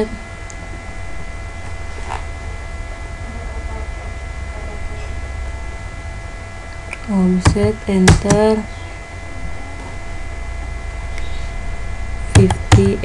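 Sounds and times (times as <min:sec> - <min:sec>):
faint high whines: 0:00.0 - 0:13.0
low electrical hum: 0:00.0 - 0:13.0.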